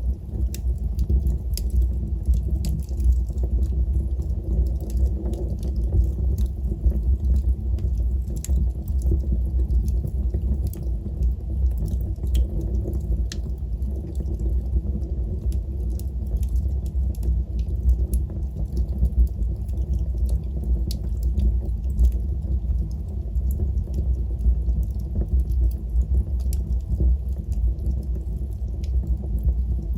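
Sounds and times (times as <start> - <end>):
logs crackling and popping: 0.0 - 29.9
wood fire rumbling: 0.0 - 29.9.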